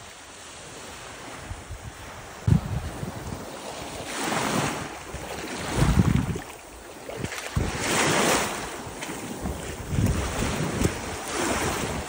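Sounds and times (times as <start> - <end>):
sea waves washing onto beach: 0.0 - 12.0
wind gusting on microphone: 0.6 - 12.0.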